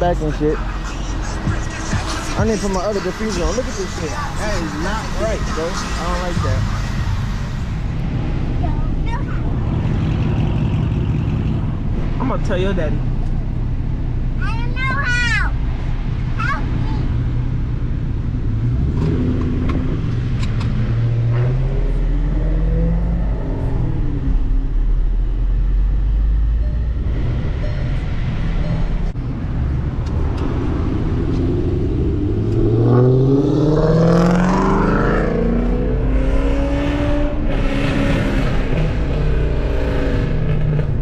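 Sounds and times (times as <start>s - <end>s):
car engine rumbling and revving: 0.0s - 41.0s.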